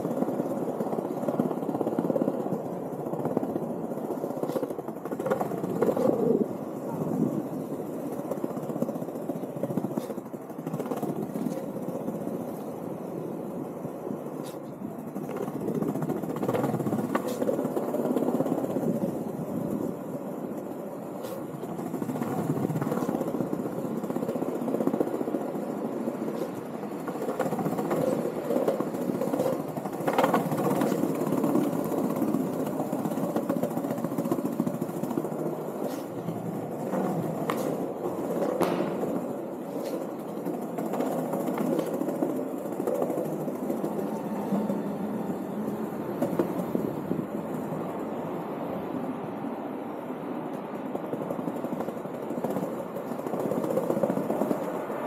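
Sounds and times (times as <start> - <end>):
skateboard wheels rolling on paving: 0.0 - 55.0.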